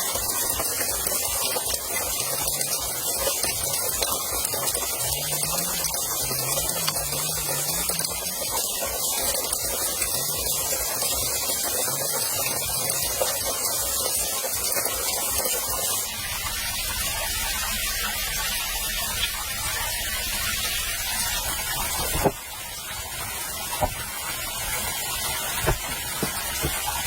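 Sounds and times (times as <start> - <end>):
running water hiss: 0.0 - 27.0.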